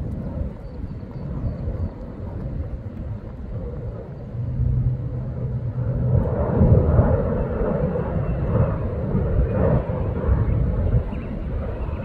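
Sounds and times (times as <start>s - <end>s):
distant jet engine rumbling: 0.0s - 12.0s.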